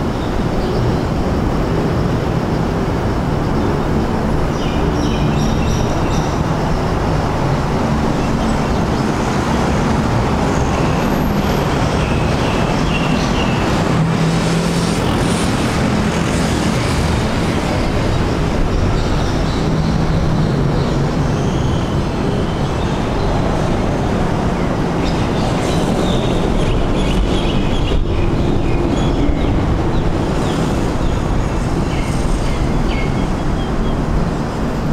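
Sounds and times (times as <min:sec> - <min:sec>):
road traffic rumble: 0:00.0 - 0:34.9.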